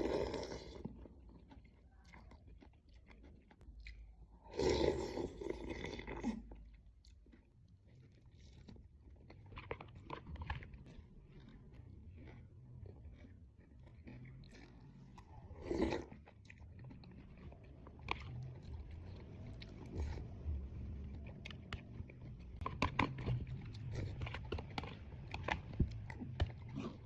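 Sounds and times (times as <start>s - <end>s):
person chewing crunchy food: 0.0s - 27.0s.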